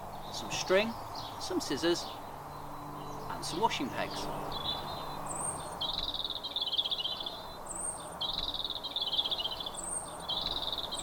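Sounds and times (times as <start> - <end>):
songbird singing a trill: 0.0 - 11.0.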